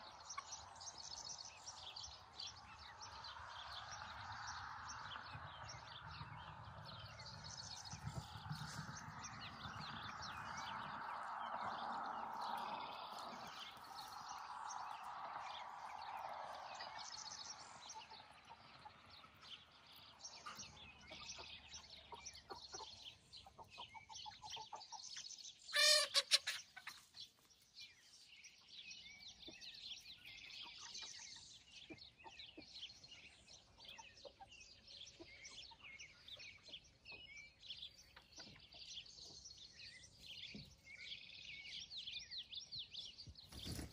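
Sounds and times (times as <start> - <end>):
chickens clucking and calling: 0.0 - 27.6, 29.0 - 43.9.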